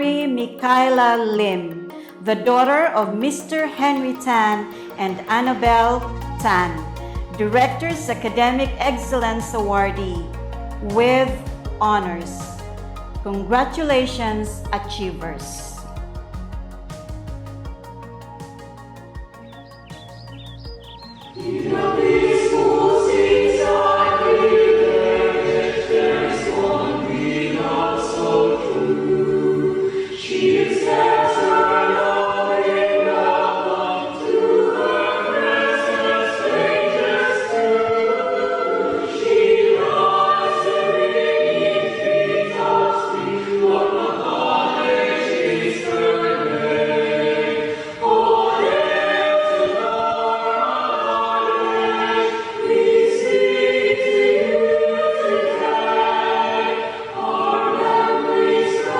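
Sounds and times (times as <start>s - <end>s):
choir singing slow song: 2.6s - 58.9s.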